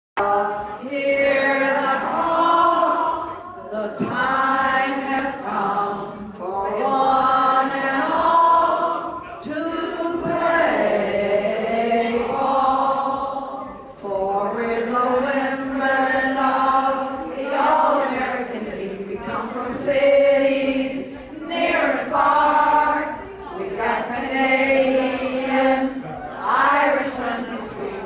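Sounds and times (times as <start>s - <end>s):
elderly woman singing: 0.2s - 28.0s.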